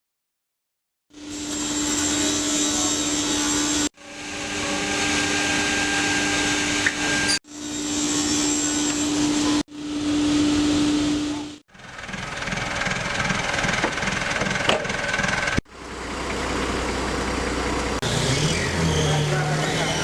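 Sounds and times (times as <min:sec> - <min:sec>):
woodworking machinery running: 0:01.1 - 0:20.0.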